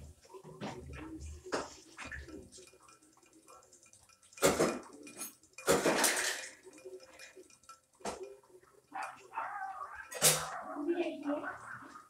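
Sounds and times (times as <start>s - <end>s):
objects rattling against glass bowl: 0.8s - 11.4s.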